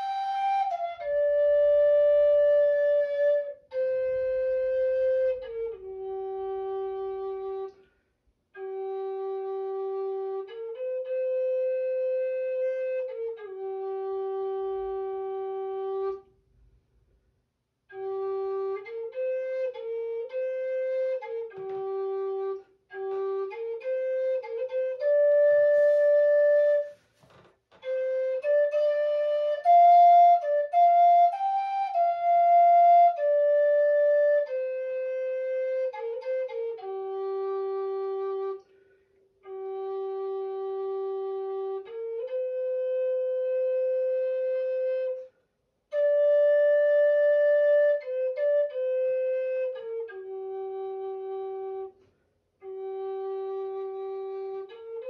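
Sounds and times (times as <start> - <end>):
solo flute melody: 0.0 - 8.0, 8.6 - 16.7, 17.9 - 55.0.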